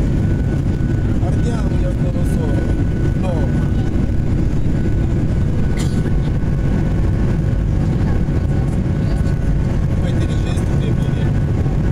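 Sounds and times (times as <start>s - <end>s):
faint steady whine: 0.0s - 11.9s
jet engines rumbling: 0.0s - 11.9s
rushing air in cabin: 0.0s - 11.9s.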